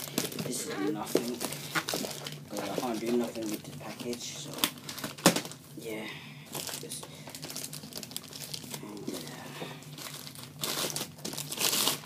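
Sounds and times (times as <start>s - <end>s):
plastic bag crinkling: 0.0s - 5.6s, 6.5s - 12.0s.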